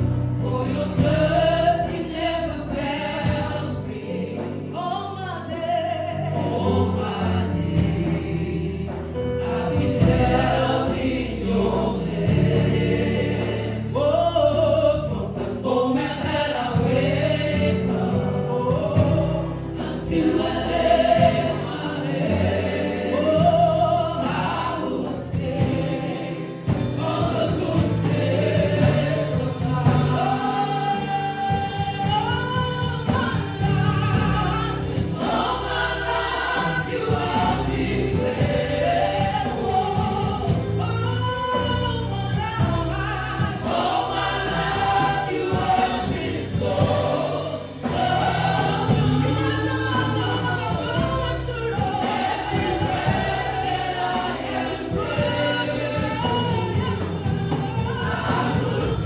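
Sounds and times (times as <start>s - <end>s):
group singing gospel song: 0.0s - 59.0s
instrumental backing: 0.0s - 59.0s.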